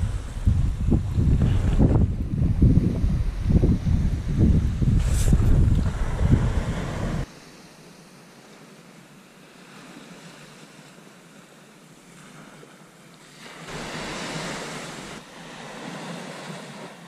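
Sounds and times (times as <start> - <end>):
surf washing onto beach: 0.0 - 7.5, 8.4 - 17.0.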